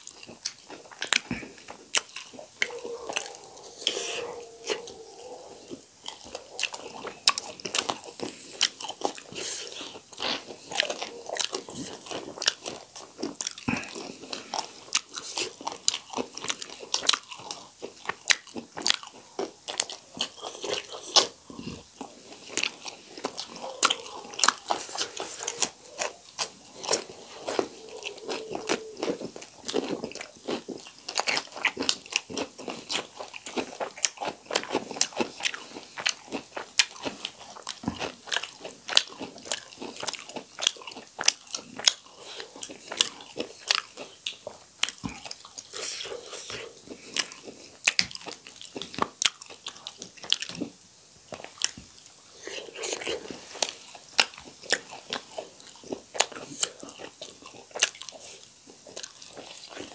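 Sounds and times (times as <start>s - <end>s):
crisp crunching and wet chewing: 0.0s - 59.9s.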